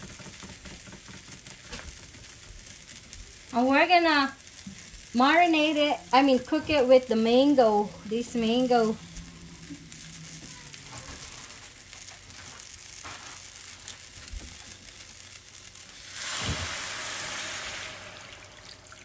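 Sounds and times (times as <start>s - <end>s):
sausages sizzling in a frying pan: 0.0s - 19.0s.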